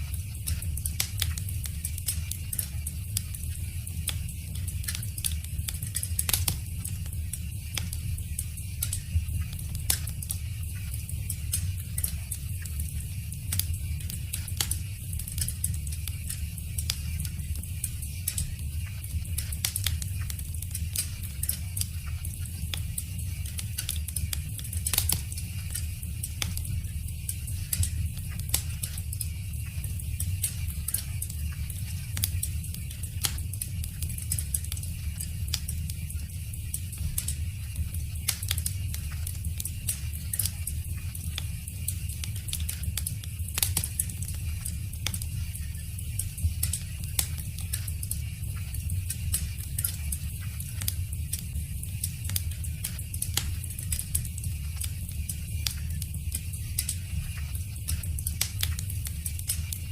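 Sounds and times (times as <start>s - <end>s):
low rumble of flames: 0.0s - 59.9s
wood fire pops and snaps: 0.1s - 59.9s.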